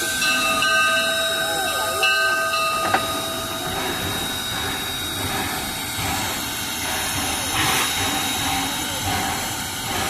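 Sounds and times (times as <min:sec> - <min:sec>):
locomotive low rumble: 0:00.0 - 0:10.0
steam locomotive hissing: 0:00.0 - 0:10.0.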